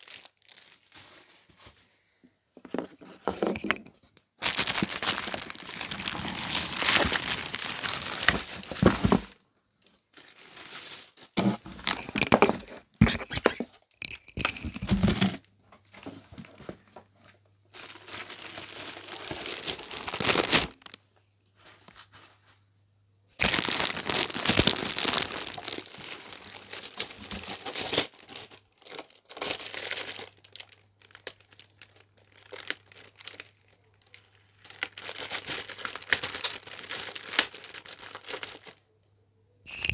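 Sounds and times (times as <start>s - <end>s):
plastic packaging crinkling: 0.0s - 1.4s, 2.6s - 15.4s, 17.7s - 22.2s, 23.4s - 38.8s.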